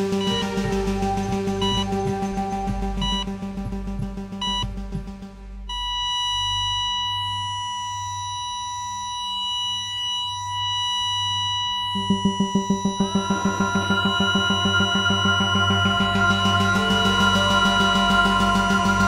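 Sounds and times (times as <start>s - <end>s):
music with strong beat: 0.0s - 9.8s, 11.8s - 19.0s
flatline tone: 0.0s - 19.0s
low slow pulse: 0.0s - 19.0s
heart monitor beep: 0.2s - 5.1s, 5.7s - 19.0s.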